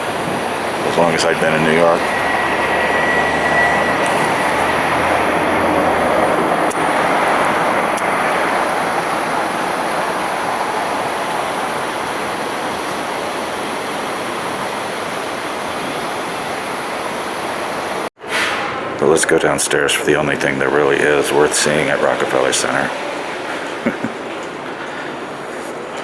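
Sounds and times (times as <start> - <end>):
fountain water splashing: 0.0 - 3.2, 4.0 - 18.1, 19.4 - 26.0.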